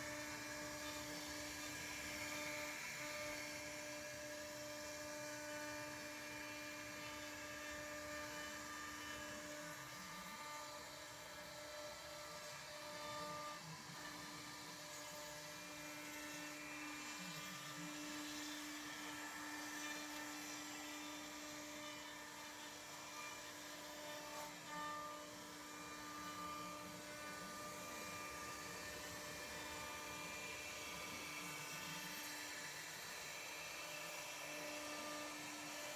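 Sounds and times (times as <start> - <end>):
router carving wood: 0.0 - 35.9.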